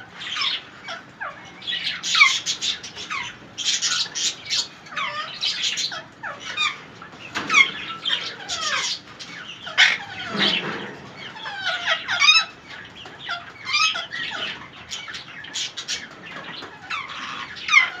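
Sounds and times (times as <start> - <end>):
parakeets calling: 0.0 - 18.0.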